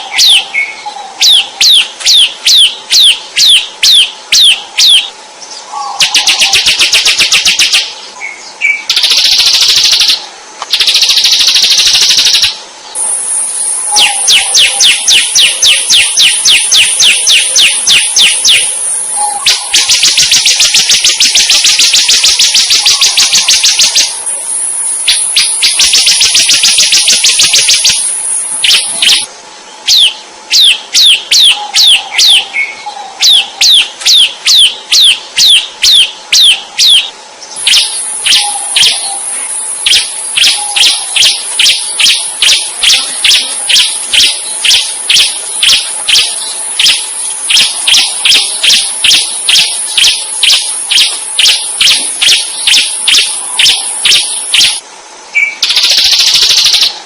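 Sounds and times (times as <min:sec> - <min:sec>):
bird singing buzzy trills: 0:00.0 - 0:57.0
steady high hiss: 0:00.0 - 0:57.0.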